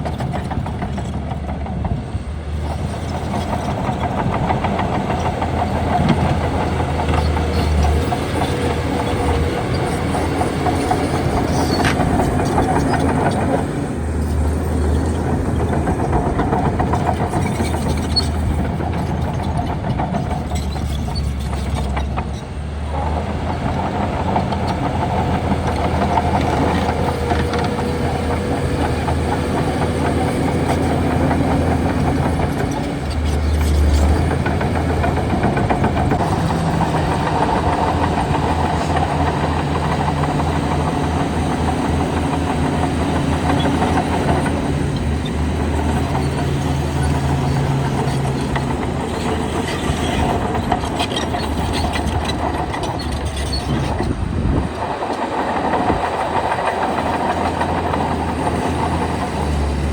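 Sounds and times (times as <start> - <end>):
bulldozer diesel engine rumble: 0.0 - 59.9
steel tracks clattering: 0.0 - 59.9.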